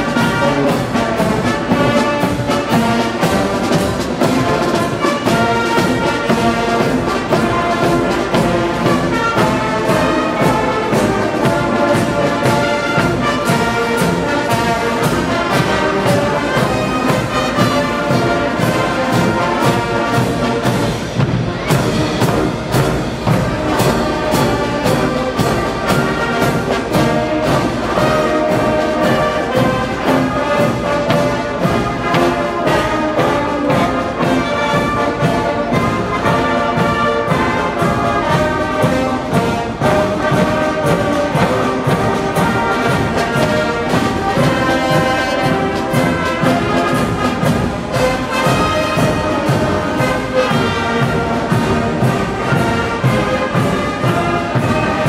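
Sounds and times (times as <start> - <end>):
brass instruments playing march: 0.0 - 55.0.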